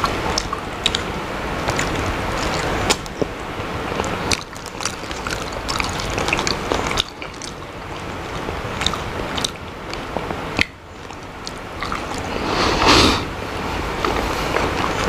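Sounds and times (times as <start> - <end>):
person chewing and eating: 0.0 - 15.0.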